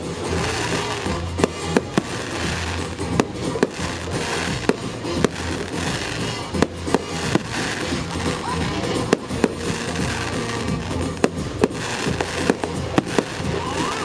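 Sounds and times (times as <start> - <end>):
firework shells bursting: 0.0 - 14.0
music: 0.0 - 14.0.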